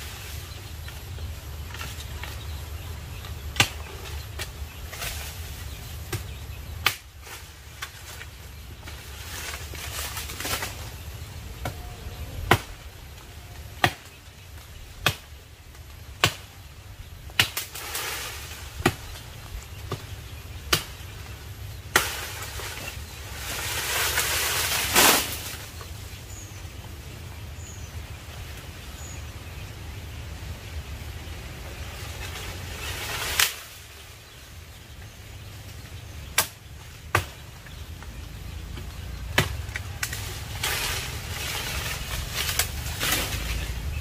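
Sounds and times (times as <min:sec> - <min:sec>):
rustling leaves: 0:00.0 - 0:44.0.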